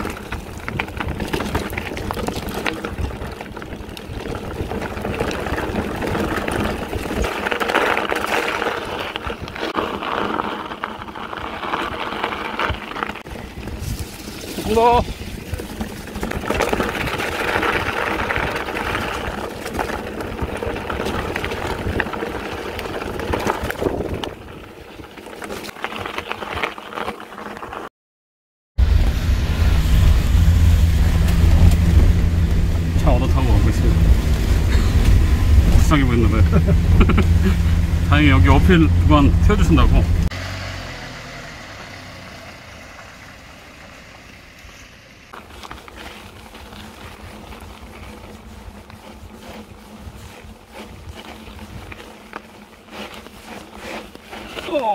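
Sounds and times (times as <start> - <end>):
vehicle engine and road noise: 0.0 - 25.7, 28.8 - 54.9
bike rattles and clicks: 0.0 - 27.9, 30.8 - 40.4, 44.5 - 54.9
bike tyres on gravel: 0.0 - 27.9, 28.8 - 54.9.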